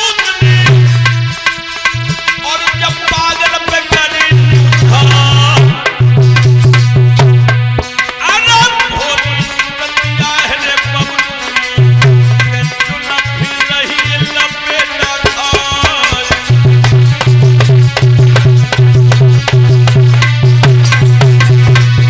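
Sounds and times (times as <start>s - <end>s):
hand drum rhythm: 0.0s - 22.0s
melodic lead with sliding notes: 0.0s - 22.0s.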